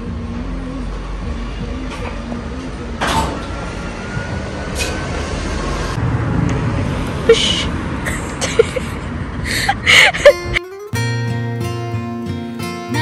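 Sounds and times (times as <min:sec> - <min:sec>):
vehicle rumble in motion: 0:00.0 - 0:10.6.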